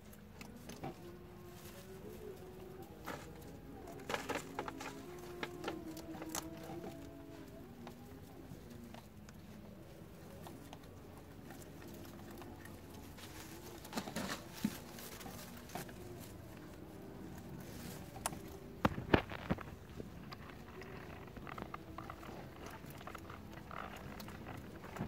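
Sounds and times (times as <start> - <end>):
dry straw rustling and crackling: 0.0 - 25.0.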